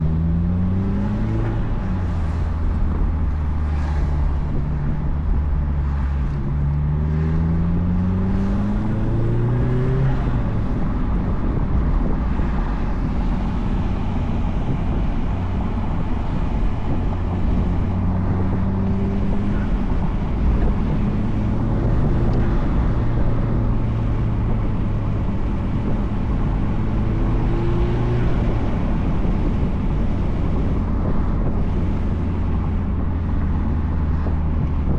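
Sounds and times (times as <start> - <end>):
car engine while driving: 0.0 - 34.9
road and wind noise: 0.0 - 34.9.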